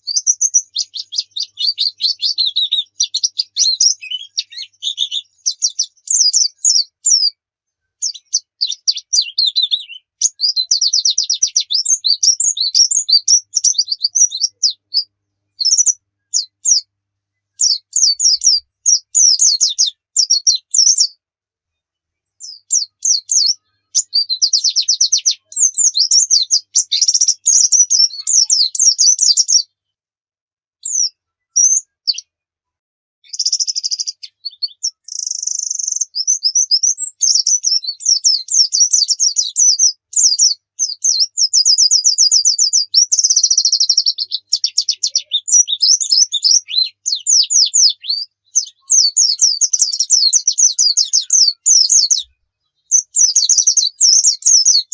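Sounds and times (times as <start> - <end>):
bird high-pitched twittering: 0.0 - 7.4, 8.0 - 16.9, 17.6 - 21.2, 22.4 - 29.7, 30.8 - 32.3, 33.2 - 54.9.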